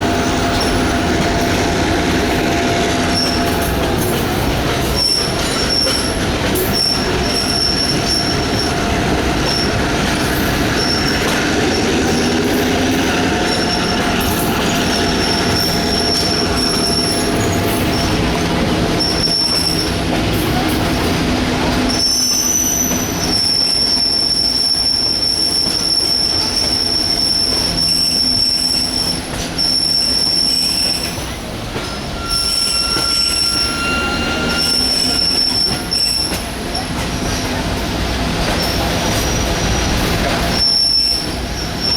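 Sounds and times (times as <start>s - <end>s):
train rumbling along track: 0.0s - 41.9s
train wheels squealing: 0.0s - 41.9s.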